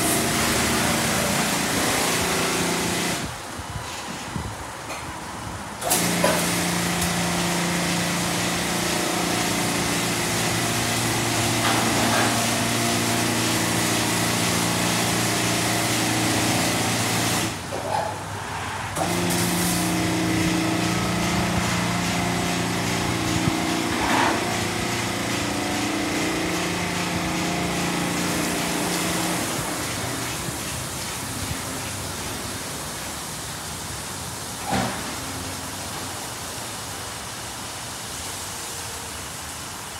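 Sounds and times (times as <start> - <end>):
car wash dryer blowers: 0.0 - 38.5.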